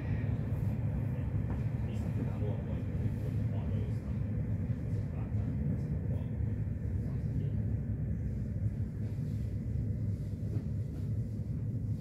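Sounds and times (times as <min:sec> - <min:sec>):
faint steady hum: 0:00.0 - 0:12.0
train rumbling on track: 0:00.0 - 0:12.0.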